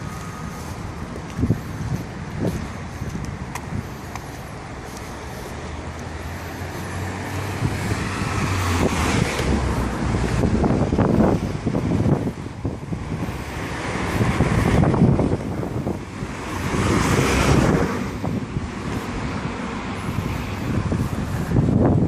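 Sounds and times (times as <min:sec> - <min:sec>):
traffic rumble: 0:00.0 - 0:22.0
vehicle engine and tyre noise: 0:00.0 - 0:22.0.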